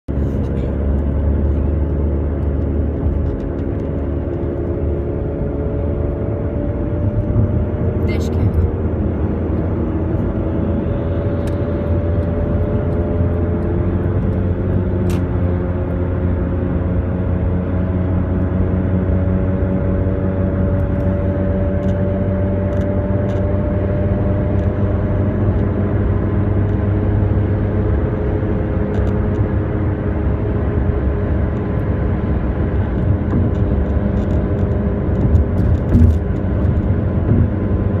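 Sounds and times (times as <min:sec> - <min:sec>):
car driving with axle hum: 0:00.1 - 0:38.0
low engine rumble: 0:00.1 - 0:38.0.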